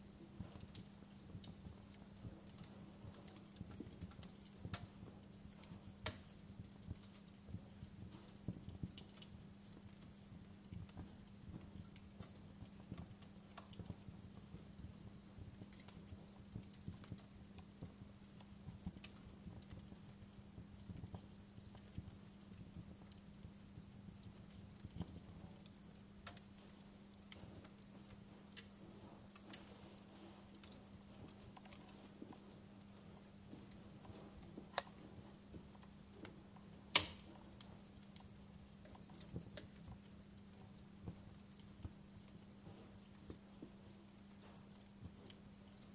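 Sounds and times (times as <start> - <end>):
steady low hum: 0.0 - 45.9
wood fire crackling: 0.0 - 45.9.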